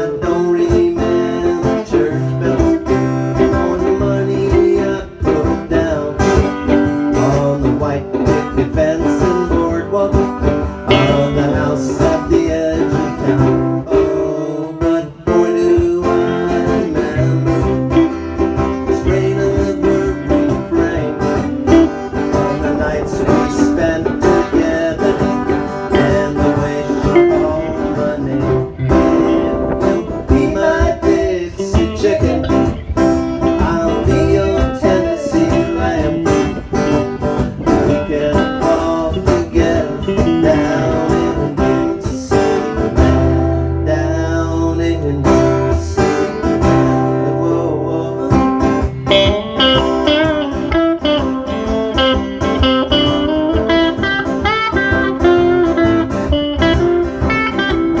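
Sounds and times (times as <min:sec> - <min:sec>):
live band playing country-rock: 0:00.0 - 0:58.0.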